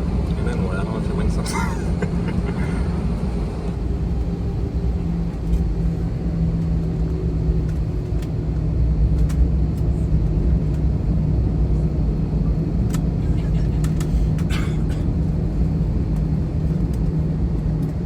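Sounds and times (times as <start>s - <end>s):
jet engines rumbling: 0.0s - 18.0s
steady cabin hum: 0.0s - 18.0s.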